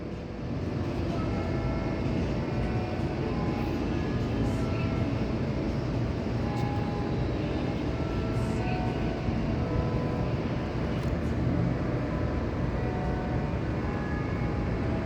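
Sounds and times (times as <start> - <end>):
city noise: 0.0 - 15.0
distant church bells chiming: 0.0 - 15.0
wind: 0.0 - 15.0.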